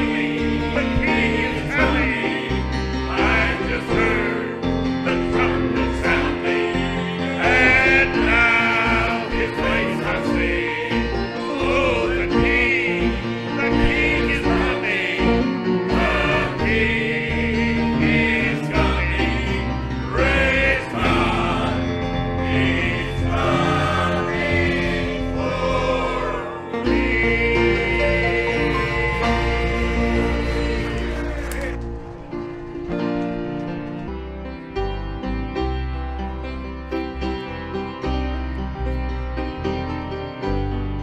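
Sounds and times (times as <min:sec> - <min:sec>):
gospel singing with vibrato: 0:00.0 - 0:35.2
instrumental accompaniment: 0:00.0 - 0:41.0.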